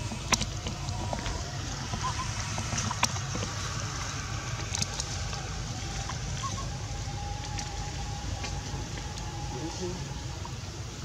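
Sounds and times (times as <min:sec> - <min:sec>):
hiss: 0:00.0 - 0:10.2
low rumble: 0:00.0 - 0:11.0.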